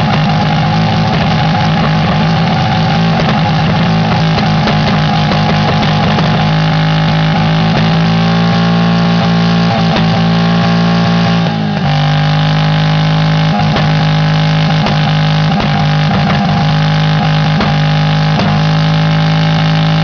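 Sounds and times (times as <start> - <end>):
engine revving at high revs: 0.0 - 20.0.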